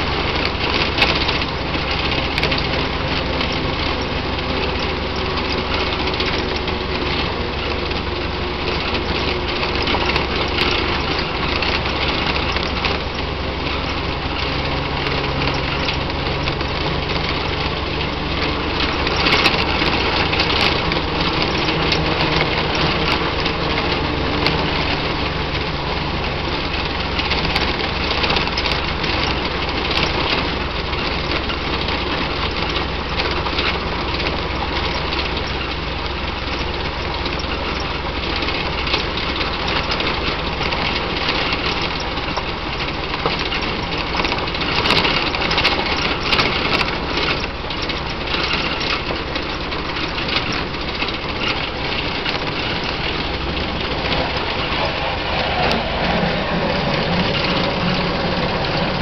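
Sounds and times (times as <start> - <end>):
clicks and rattles: 0.0 - 59.0
old car engine running: 0.0 - 59.0
road noise from moving car: 0.0 - 59.0.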